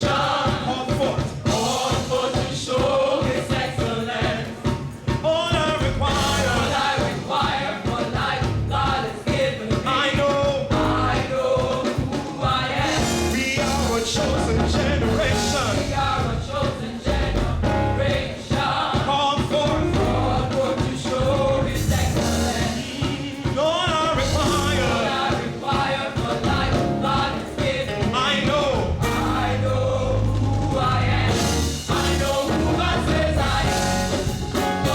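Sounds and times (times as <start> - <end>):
band with drums and bass: 0.0 - 34.9
gospel choir singing: 0.0 - 34.9.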